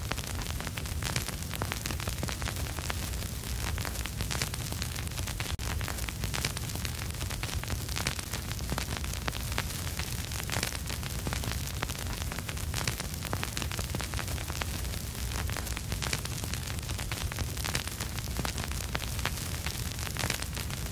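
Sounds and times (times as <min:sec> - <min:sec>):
steady hiss: 0:00.0 - 0:20.9
vinyl crackles and pops: 0:00.0 - 0:20.9.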